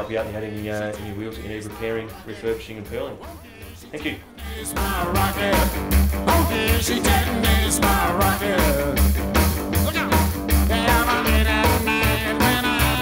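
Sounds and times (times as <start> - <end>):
song with singing and drums: 0.0 - 13.0.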